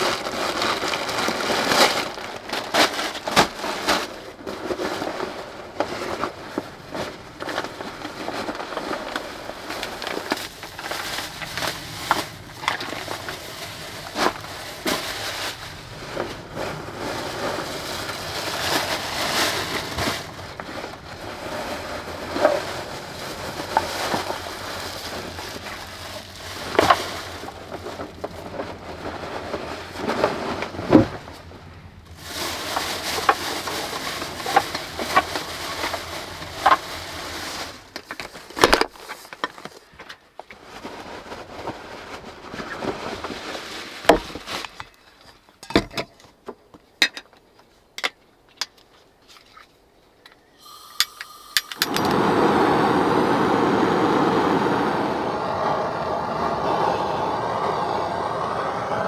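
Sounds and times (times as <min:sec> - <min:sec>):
plastic bags rustling: 0:00.0 - 0:50.8.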